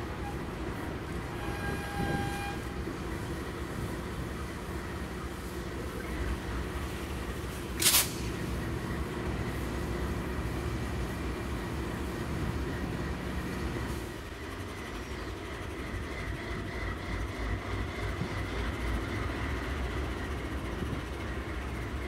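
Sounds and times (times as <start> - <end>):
diesel locomotives passing: 0.0 - 22.0
rail noise: 0.0 - 22.0.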